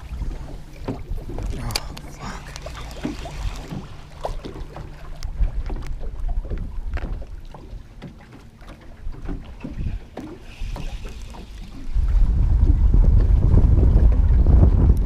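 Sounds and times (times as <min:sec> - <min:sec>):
wind buffeting microphone: 0:00.0 - 0:08.2, 0:08.9 - 0:15.0.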